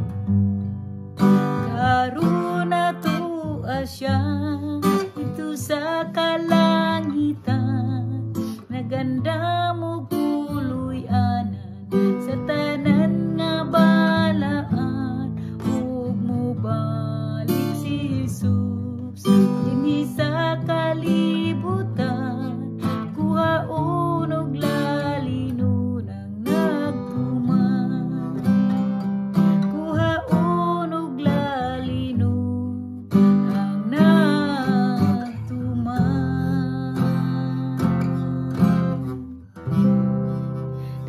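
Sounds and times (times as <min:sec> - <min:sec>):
acoustic guitar strumming: 0:00.0 - 0:41.0
woman singing gospel song: 0:01.7 - 0:28.5, 0:29.7 - 0:39.4.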